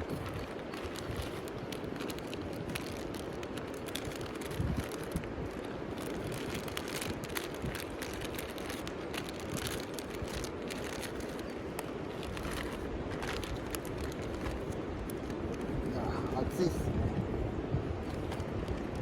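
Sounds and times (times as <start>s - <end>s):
wood fire crackling: 0.0s - 16.8s
rushing background noise: 0.0s - 19.0s.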